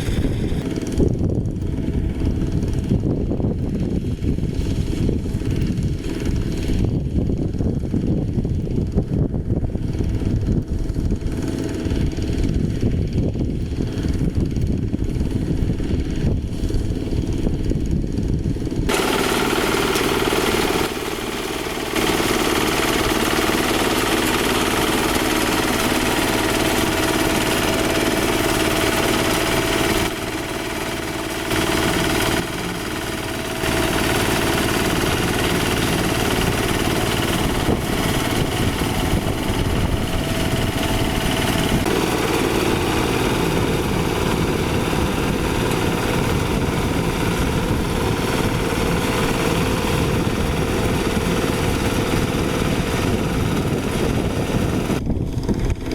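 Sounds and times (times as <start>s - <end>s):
small diesel engine running: 0.0s - 55.9s.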